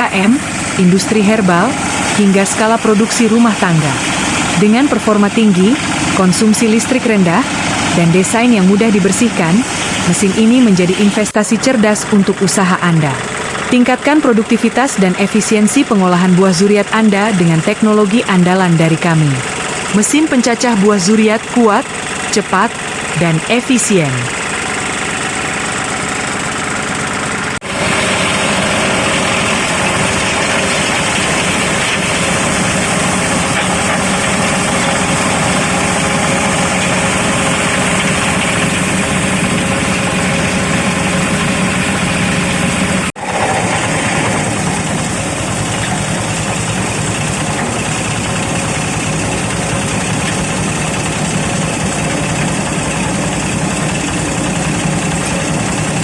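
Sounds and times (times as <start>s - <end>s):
fruit chopping machine drone: 0.0s - 56.0s.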